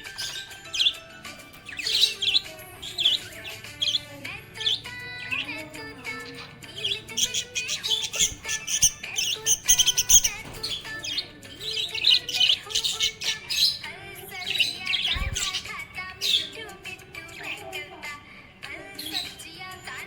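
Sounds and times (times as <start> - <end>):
budgerigars chirping: 0.0 - 16.5.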